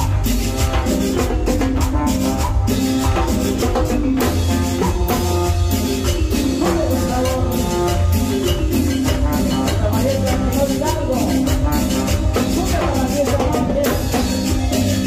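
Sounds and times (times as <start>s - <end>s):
live latin dance music: 0.0s - 15.0s.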